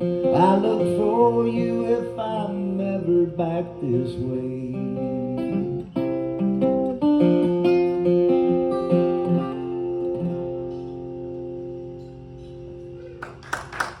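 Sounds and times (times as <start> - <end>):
acoustic guitar playing: 0.0 - 13.4.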